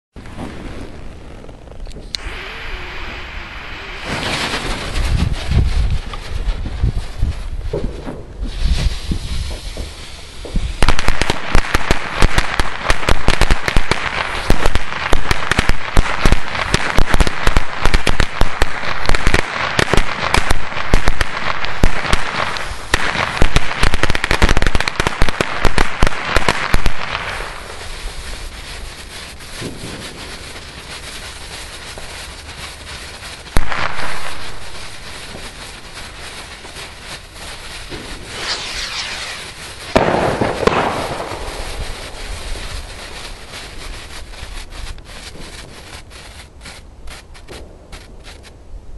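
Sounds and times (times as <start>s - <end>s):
firecracker crackle: 0.2s - 48.6s.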